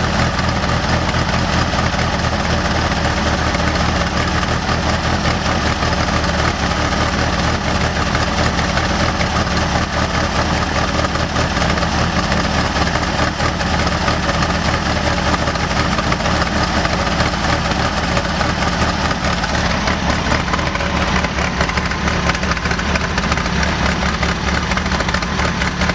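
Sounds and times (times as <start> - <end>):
car engine idling roughly: 0.0 - 25.9.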